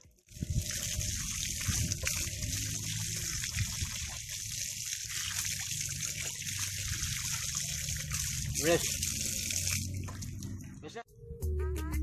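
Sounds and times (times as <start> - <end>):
running water splashing: 0.0 - 10.8.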